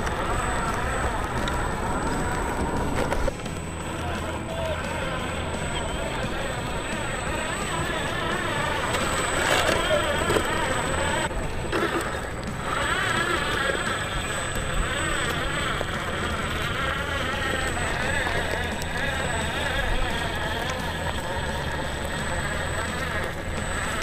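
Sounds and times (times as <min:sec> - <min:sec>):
toy car electric motor whining: 0:00.0 - 0:24.0.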